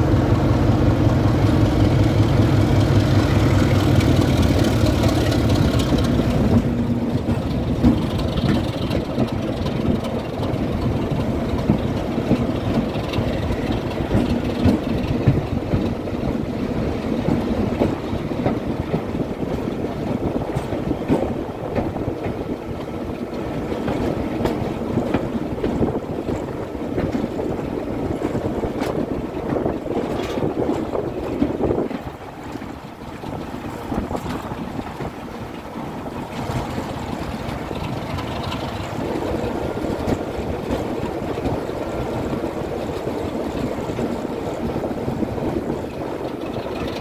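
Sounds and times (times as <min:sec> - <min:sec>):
diesel locomotive engine rumble: 0:00.0 - 0:47.0
wheels clicking over rail joints: 0:00.9 - 0:47.0.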